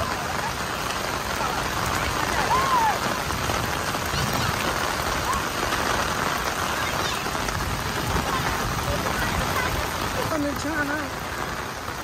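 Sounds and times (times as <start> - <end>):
heavy rain on concrete roof: 0.0 - 12.0.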